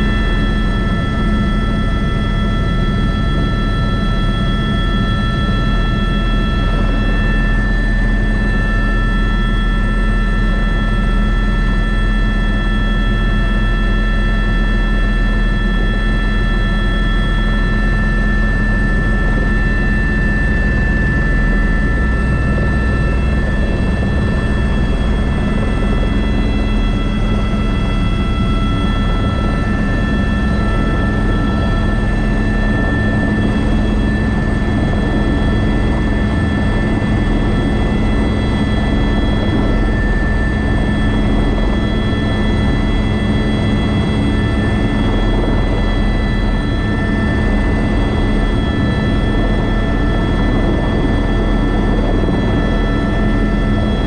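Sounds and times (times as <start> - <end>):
helicopter engine whining: 0.0 - 54.0.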